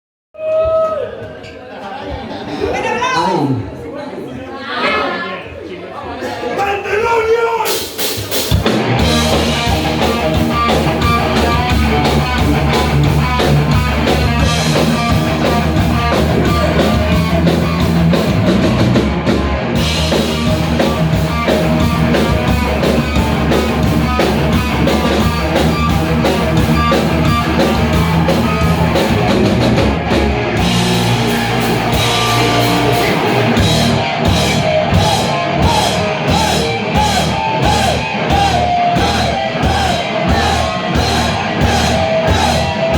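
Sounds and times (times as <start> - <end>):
drum kit hits: 7.8 - 42.9
bass: 8.0 - 42.9
electric guitar: 8.4 - 42.9.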